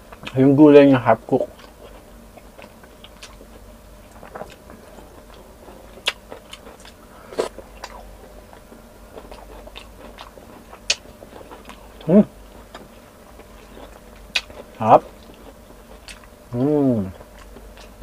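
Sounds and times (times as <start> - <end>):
wet chewing: 1.4 - 16.4, 17.1 - 18.0.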